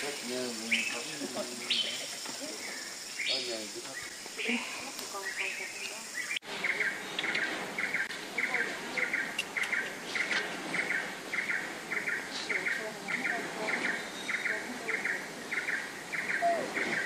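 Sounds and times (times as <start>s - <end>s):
outdoor hiss: 0.0s - 17.0s
rhythmic chirping call: 0.0s - 17.0s.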